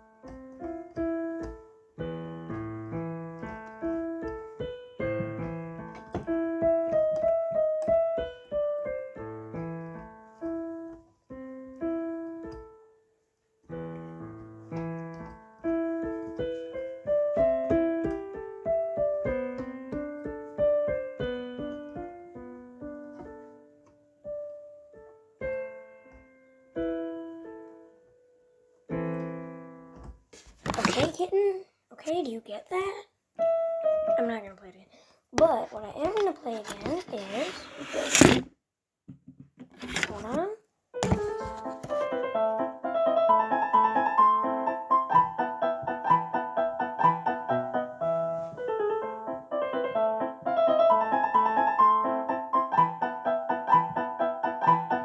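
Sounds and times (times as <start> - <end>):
piano melody over chords: 0.0 - 30.2, 33.4 - 34.4, 41.0 - 55.0.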